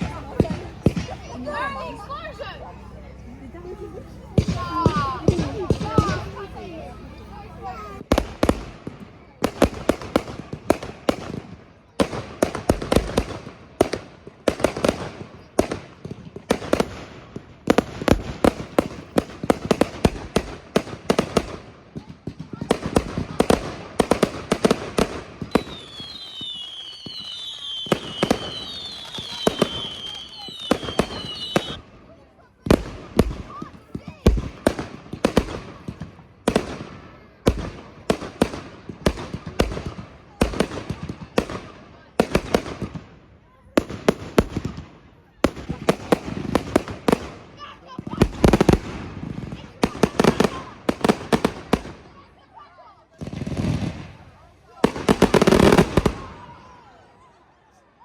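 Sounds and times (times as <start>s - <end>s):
fireworks bangs: 0.0s - 52.6s, 53.2s - 56.8s
fireworks crackling: 0.0s - 56.8s.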